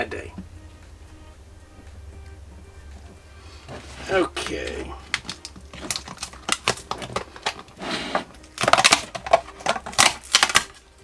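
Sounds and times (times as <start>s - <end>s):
sticky insulator peeling crackles: 0.0s - 11.0s.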